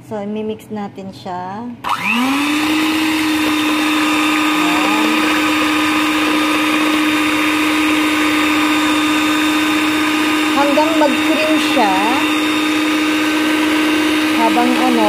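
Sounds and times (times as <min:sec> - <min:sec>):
electric hand mixer running: 0:01.8 - 0:15.0
beaters whisking in bowl: 0:01.9 - 0:15.0.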